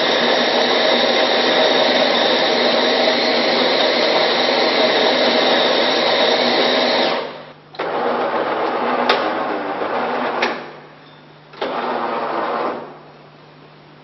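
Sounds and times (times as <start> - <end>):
coffee grinder running: 0.0 - 10.4, 11.6 - 13.0
coffee machine hum: 0.0 - 13.3.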